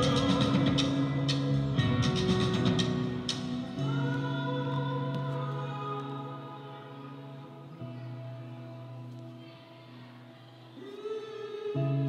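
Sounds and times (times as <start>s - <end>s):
slow music with long held notes: 0.0s - 12.0s.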